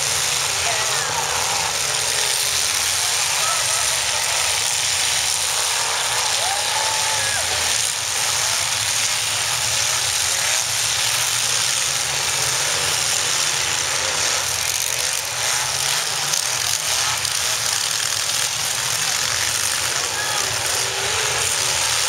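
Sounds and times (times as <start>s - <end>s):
car engines revving: 0.0s - 22.0s
crowd hum: 0.0s - 22.0s.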